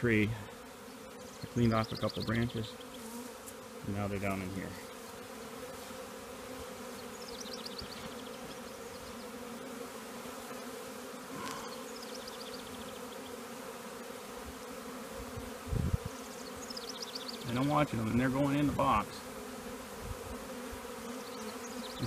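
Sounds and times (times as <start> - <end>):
bee swarm droning: 0.0 - 22.0.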